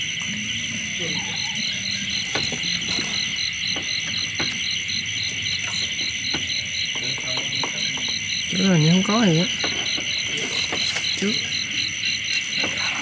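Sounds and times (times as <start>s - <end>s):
crickets and insects chirring: 0.0s - 13.0s
insect pulsing: 0.0s - 13.0s
low frog calls: 0.0s - 13.0s.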